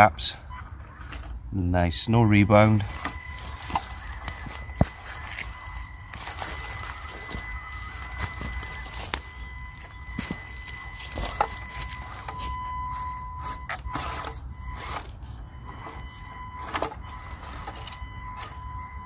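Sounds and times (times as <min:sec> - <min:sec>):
tyres crunching leaves and twigs: 0:00.0 - 0:19.0
toy car motor whine: 0:02.6 - 0:19.0.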